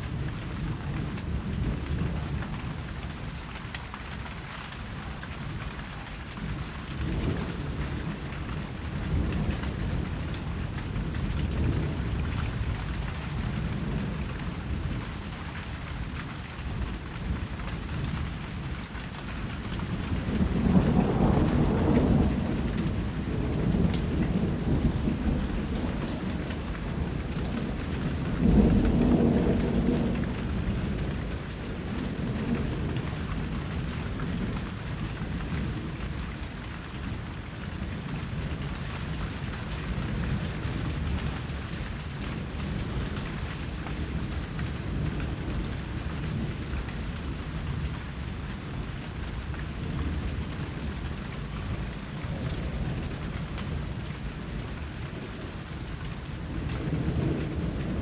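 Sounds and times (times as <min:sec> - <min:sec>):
steady rainfall: 0:00.0 - 0:58.0
thunder rumbling: 0:06.4 - 0:16.0, 0:19.3 - 0:37.1, 0:37.7 - 0:58.0.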